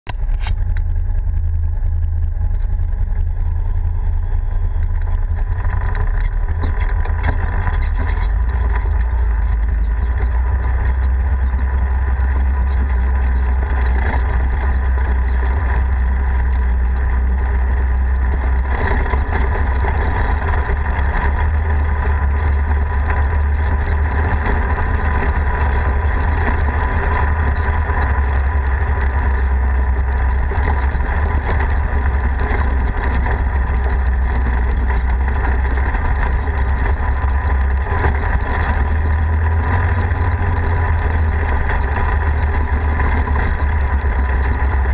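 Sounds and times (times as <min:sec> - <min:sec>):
off-road vehicle rumbling: 0:00.0 - 0:44.9.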